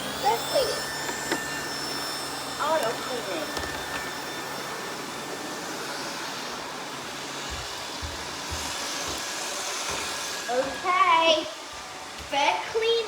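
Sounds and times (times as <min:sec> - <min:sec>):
robot vacuum cleaners whirring: 0:00.0 - 0:13.0.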